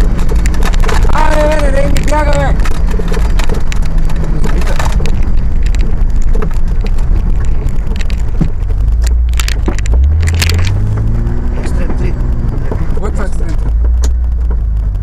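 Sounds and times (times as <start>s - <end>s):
body and suspension clatter: 0.0s - 15.0s
car engine running under load: 0.0s - 15.0s.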